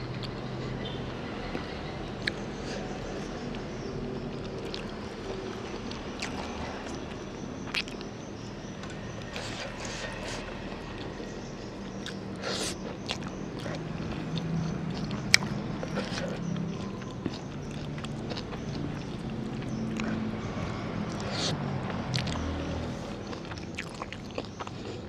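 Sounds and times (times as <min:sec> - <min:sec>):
chewing and biting noodles: 0:02.2 - 0:08.4, 0:09.0 - 0:25.0.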